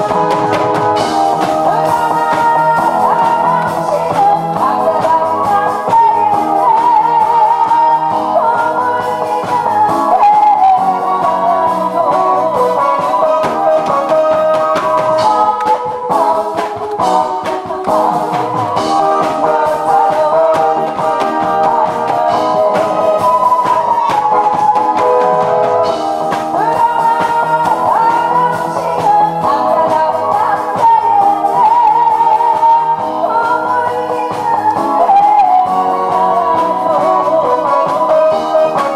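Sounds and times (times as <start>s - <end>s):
instrumental backing music: 0.0s - 38.9s
woman singing into a microphone: 0.0s - 38.9s.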